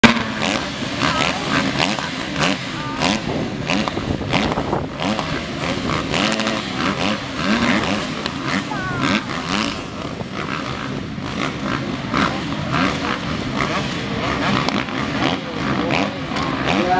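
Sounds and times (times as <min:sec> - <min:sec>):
motocross engines revving: 0:00.0 - 0:16.9.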